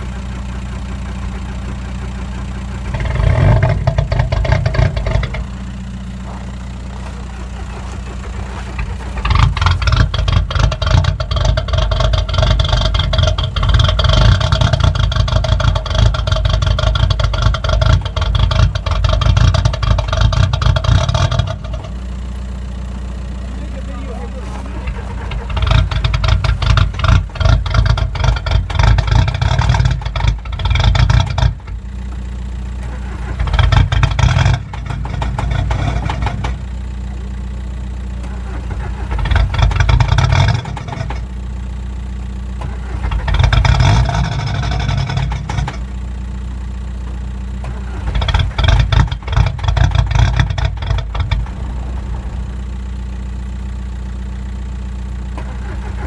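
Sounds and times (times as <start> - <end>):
diesel car engine idling and revving: 0.0 - 56.0.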